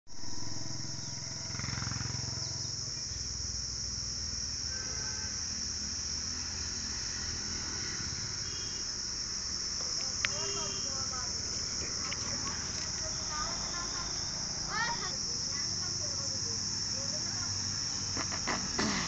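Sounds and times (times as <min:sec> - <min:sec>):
insects droning: 0:00.1 - 0:19.0.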